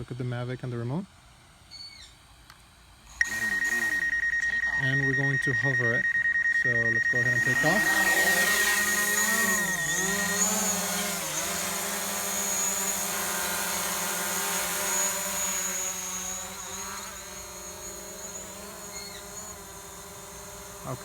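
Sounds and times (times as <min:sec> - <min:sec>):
drone propellers buzzing: 0:03.0 - 0:21.0.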